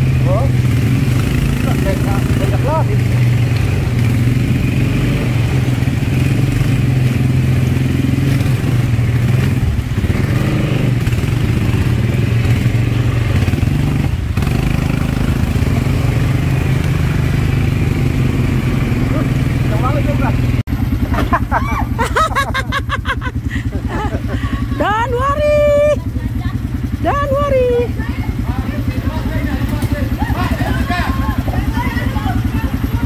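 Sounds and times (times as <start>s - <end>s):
quad bike engine running: 0.0s - 33.0s.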